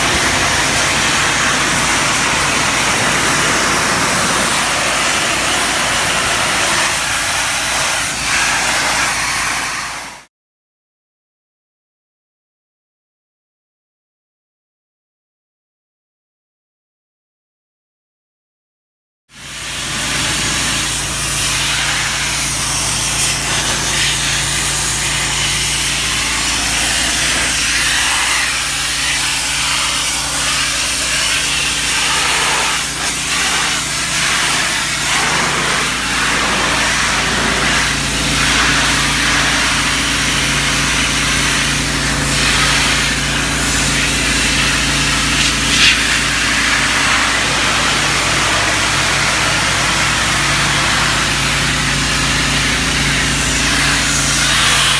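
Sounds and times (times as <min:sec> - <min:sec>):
pressure washer engine humming: 0:00.0 - 0:10.2, 0:19.4 - 0:54.9
high-pressure water jet hissing: 0:00.0 - 0:10.3, 0:19.4 - 0:54.9.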